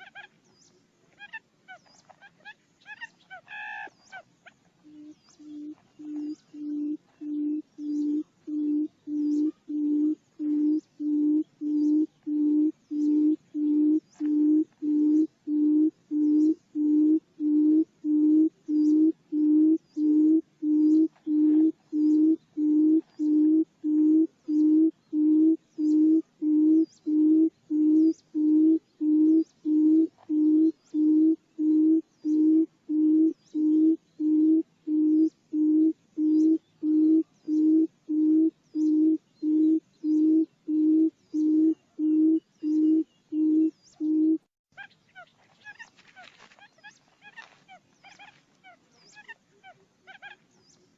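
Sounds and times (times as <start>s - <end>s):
bird low hoots: 0.0s - 0.4s, 1.1s - 50.5s
faint high chirps: 3.9s - 45.9s.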